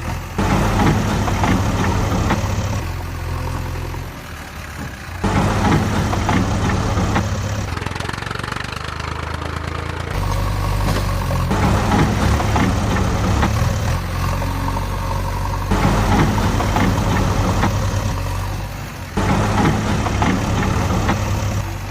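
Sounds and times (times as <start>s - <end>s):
vehicle engine idling: 0.0s - 21.9s.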